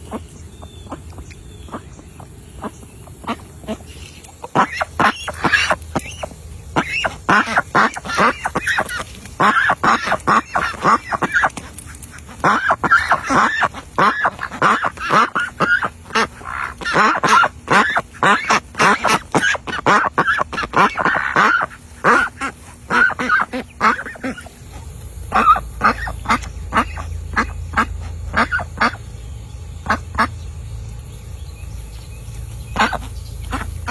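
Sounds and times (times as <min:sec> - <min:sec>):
ducks quacking: 0:00.0 - 0:30.8, 0:31.8 - 0:33.9
steady low rumble: 0:00.0 - 0:33.9.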